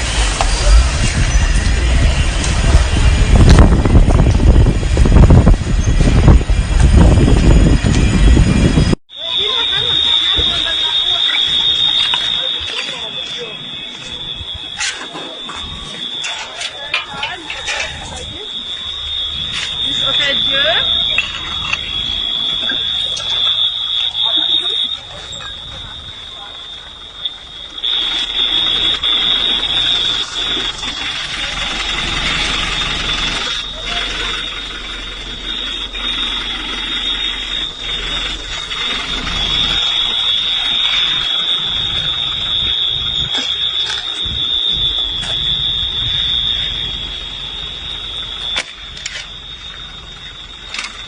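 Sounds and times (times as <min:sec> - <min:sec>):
background commotion: 0:00.0 - 0:51.0
high-pitched electronic alarm tone: 0:00.0 - 0:51.0.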